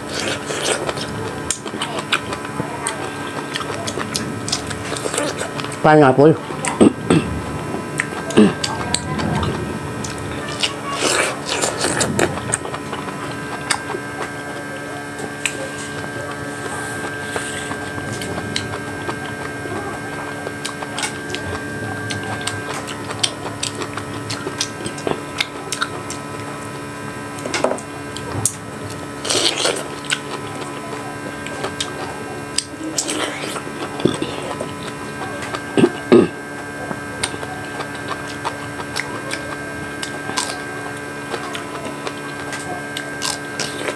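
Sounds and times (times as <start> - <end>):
electrical hum: 0.0 - 43.9
person chewing pineapple: 0.0 - 43.9.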